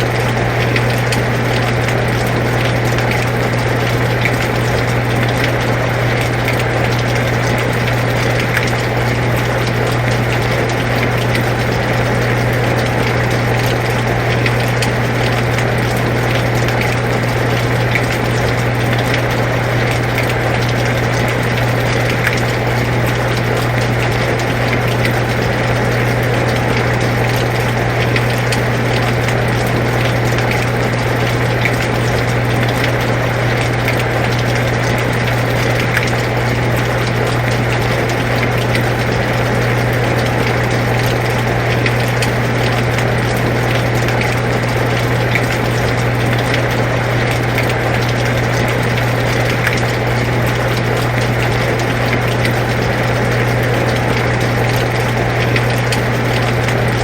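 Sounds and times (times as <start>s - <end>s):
air conditioner humming: 0.0s - 57.0s
rain falling: 0.0s - 57.0s
raindrop ticks: 0.0s - 57.0s.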